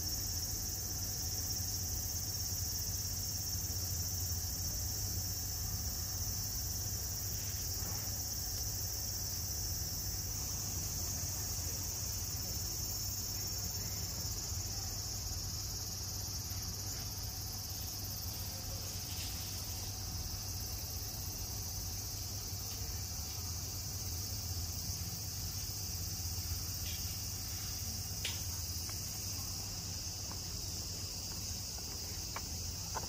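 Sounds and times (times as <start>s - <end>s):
shrill insect chorus: 0.0s - 33.0s.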